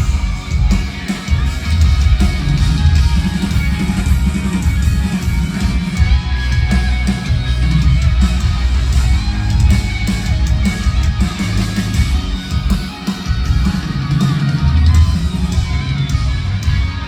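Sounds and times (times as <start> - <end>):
bass guitar: 0.0 - 17.0
distorted electric guitars: 0.0 - 17.0
drums: 0.0 - 17.0.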